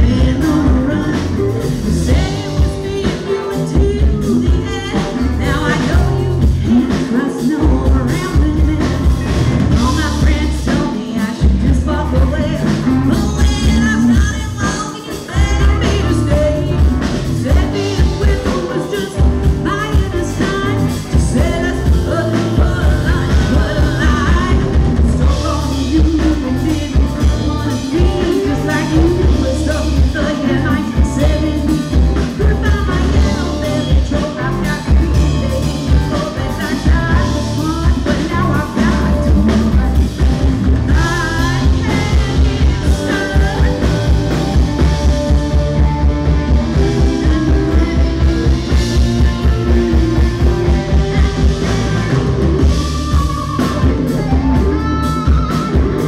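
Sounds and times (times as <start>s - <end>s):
drum kit: 0.0s - 56.0s
electric bass: 0.0s - 56.0s
women singing: 0.0s - 56.0s.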